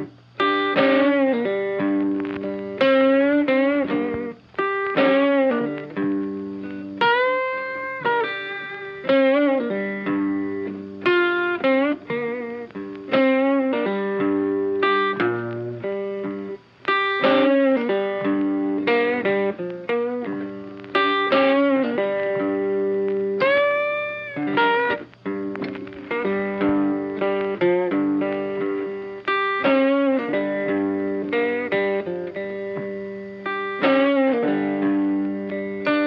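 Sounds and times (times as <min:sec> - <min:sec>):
plucked guitar melody: 0:00.0 - 0:36.0.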